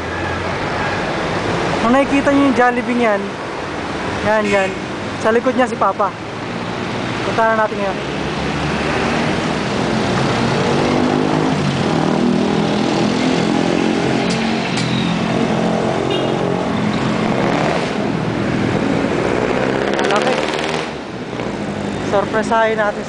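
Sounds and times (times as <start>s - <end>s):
road and wind noise: 0.0s - 23.0s
vehicle engine: 0.0s - 23.0s.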